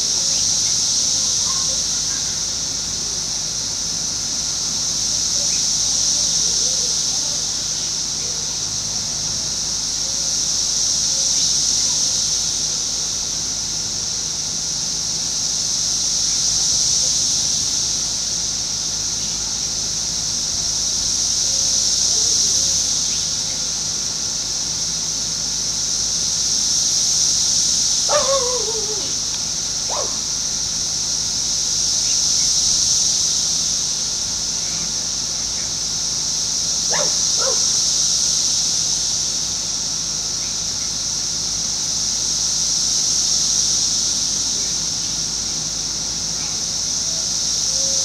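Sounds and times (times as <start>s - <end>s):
cicadas singing in chorus: 0.0s - 48.0s.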